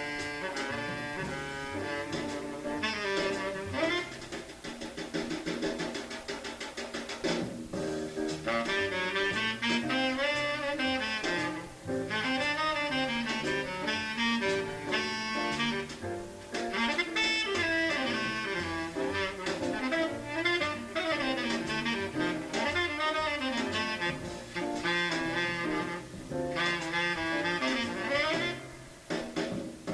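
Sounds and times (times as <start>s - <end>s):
double bass: 0.0s - 4.4s, 7.7s - 29.1s
tenor saxophone improvising: 0.0s - 4.5s, 8.4s - 16.0s, 16.6s - 29.0s
drums: 0.0s - 29.9s.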